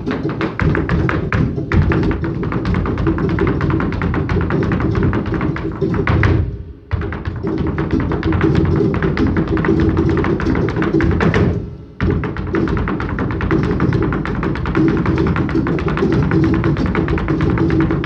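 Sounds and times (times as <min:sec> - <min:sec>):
fast percussive tapping: 0:00.0 - 0:18.0.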